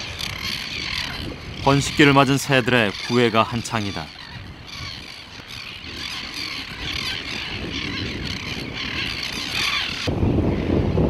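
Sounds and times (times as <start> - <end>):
seabird colony calling: 0.0 - 11.0.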